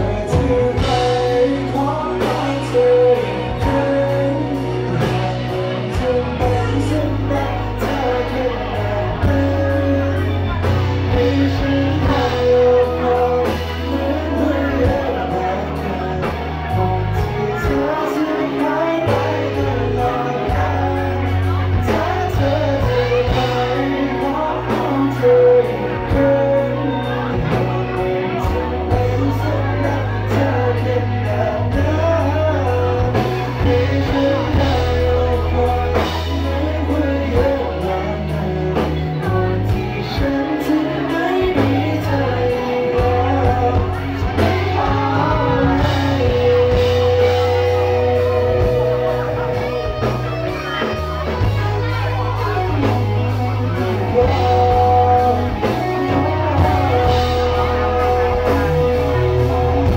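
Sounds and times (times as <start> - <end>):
live rock band: 0.0 - 59.9
person singing: 0.0 - 59.9.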